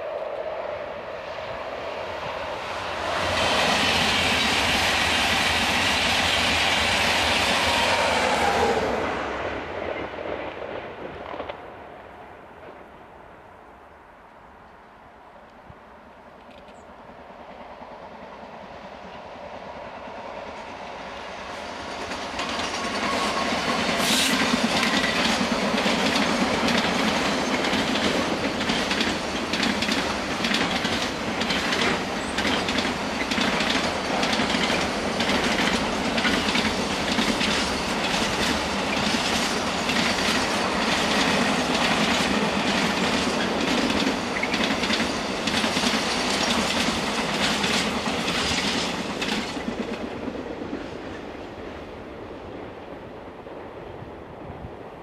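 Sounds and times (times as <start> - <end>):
diesel locomotive passing: 0.0 - 15.4, 16.0 - 55.0.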